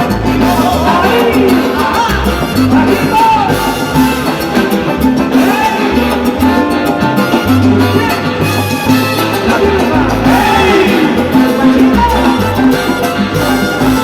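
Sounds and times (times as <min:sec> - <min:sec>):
salsa band playing live: 0:00.0 - 0:14.0.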